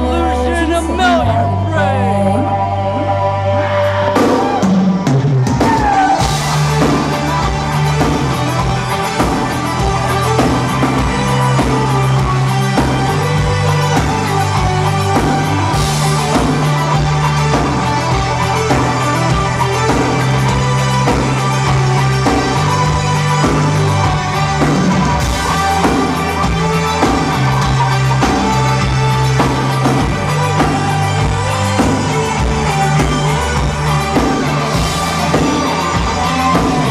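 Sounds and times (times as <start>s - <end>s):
bass notes: 0.0s - 36.9s
electric guitars: 0.0s - 36.9s
drum kit beat: 4.2s - 36.9s.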